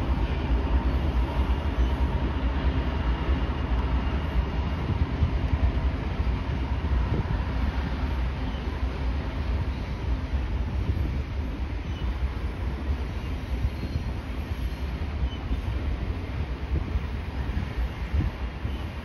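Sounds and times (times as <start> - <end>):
freight cars rumbling on rails: 0.0 - 19.0.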